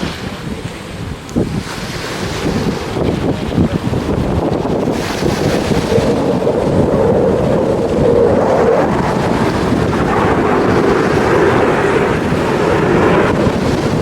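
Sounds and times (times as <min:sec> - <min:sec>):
jet aircraft roar: 0:00.0 - 0:14.0.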